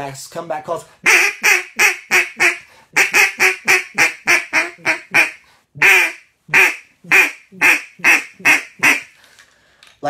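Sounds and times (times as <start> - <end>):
duck call quacks: 1.0 - 9.1.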